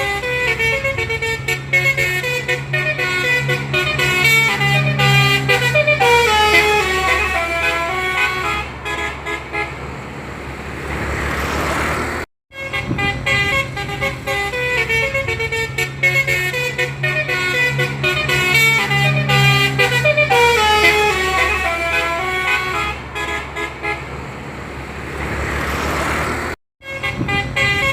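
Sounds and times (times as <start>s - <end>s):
musical horn melody: 0.0s - 9.8s, 12.5s - 24.1s, 26.8s - 27.9s
low engine hum: 0.0s - 27.9s.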